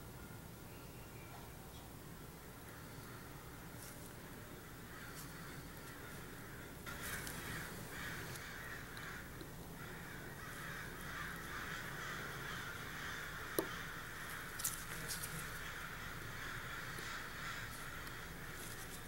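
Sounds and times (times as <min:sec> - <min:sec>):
faint rasping background noise: 0:00.0 - 0:19.0.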